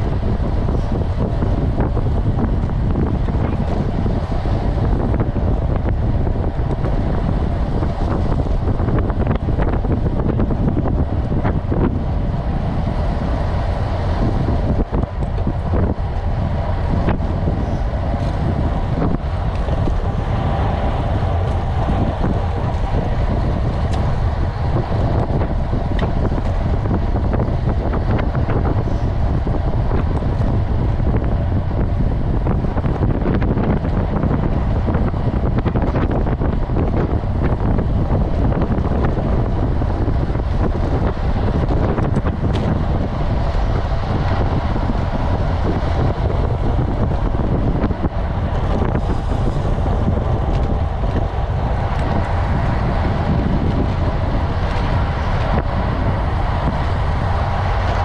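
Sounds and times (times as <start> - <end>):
bicycle tyre and road noise: 0.0 - 58.0
wind noise on microphone: 0.0 - 58.0.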